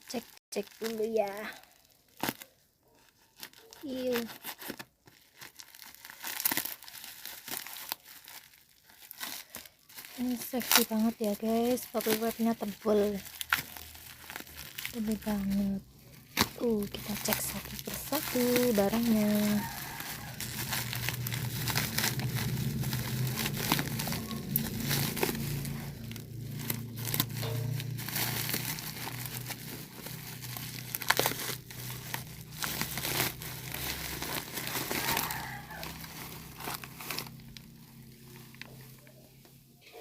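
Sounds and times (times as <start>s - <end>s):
plastic packaging crinkling: 0.0s - 39.5s.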